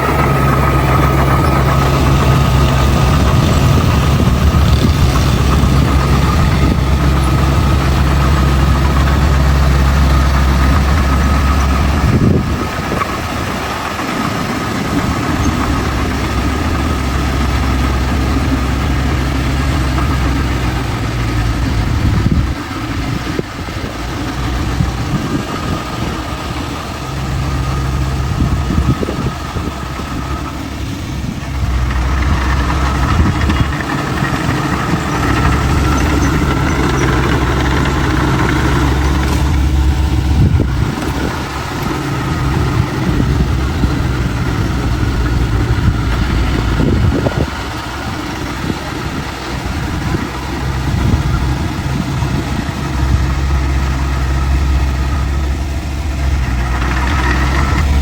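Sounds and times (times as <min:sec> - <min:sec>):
heavy diesel engine under load: 0:00.0 - 0:58.0
high whine: 0:00.0 - 0:58.0.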